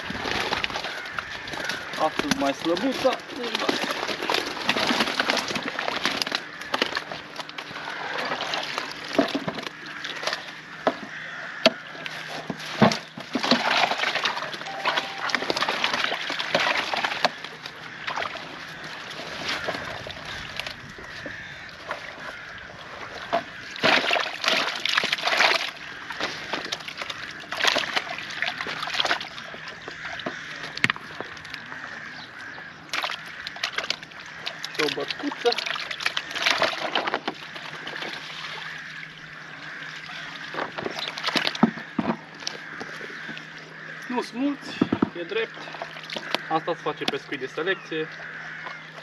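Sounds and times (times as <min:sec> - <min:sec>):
fish thrashing in water: 0:00.0 - 0:49.0
water sloshing and splashing: 0:00.0 - 0:49.0.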